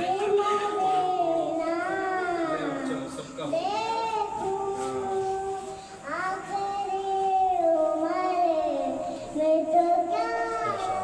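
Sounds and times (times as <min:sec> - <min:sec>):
children singing devotional song: 0:00.0 - 0:11.0.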